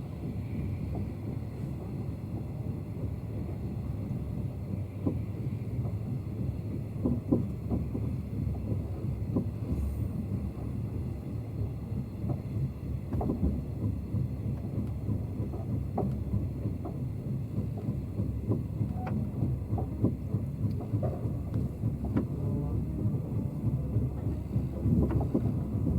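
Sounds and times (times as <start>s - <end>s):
train low rumble: 0.0s - 25.9s.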